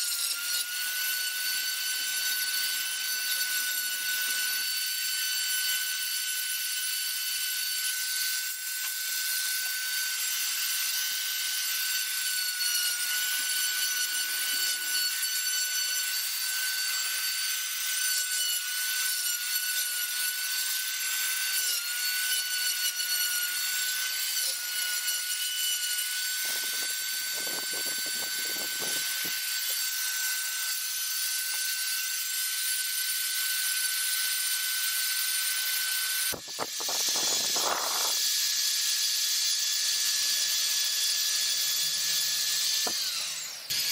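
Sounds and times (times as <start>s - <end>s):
rotary tool grinding wood: 0.0s - 43.9s.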